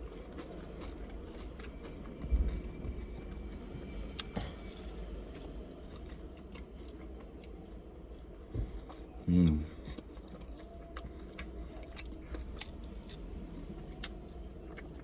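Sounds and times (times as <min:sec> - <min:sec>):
chewing crunchy snacks: 0:00.0 - 0:15.0.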